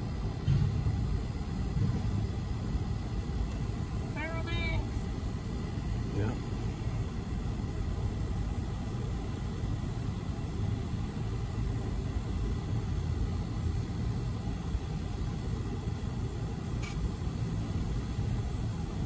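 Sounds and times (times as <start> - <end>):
freight train rumble: 0.0 - 16.5.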